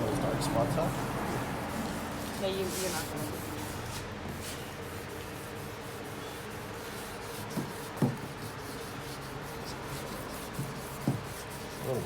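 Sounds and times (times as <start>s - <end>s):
sandpaper rubbing wet paint: 1.7s - 12.0s.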